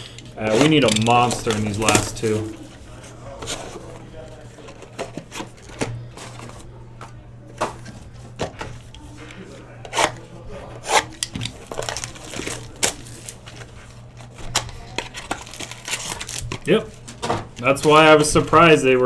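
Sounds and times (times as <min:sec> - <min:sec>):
card packs crinkling: 0:00.0 - 0:19.0.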